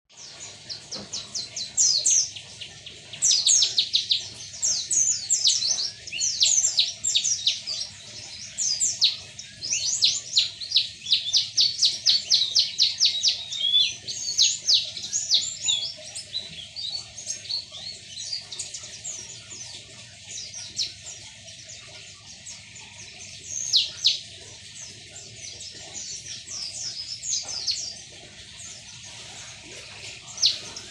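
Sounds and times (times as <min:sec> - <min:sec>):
small bird chirping twitters: 0:00.1 - 0:30.9.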